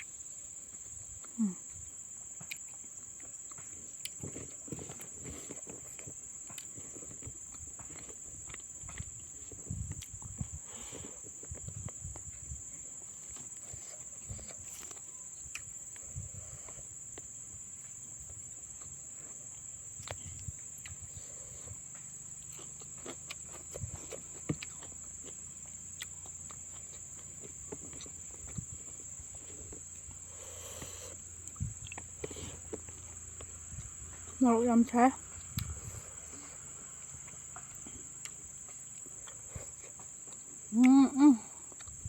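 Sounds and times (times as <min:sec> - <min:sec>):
crickets droning: 0:00.0 - 0:42.0
mouth noises eating: 0:01.1 - 0:42.0.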